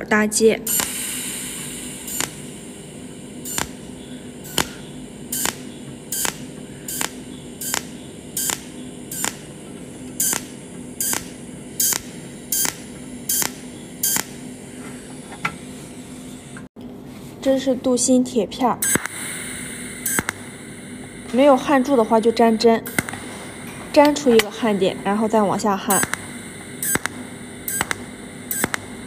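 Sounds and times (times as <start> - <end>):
welding arc zapping: 0.0 - 16.7, 18.8 - 29.0
steady low hum: 0.0 - 29.0.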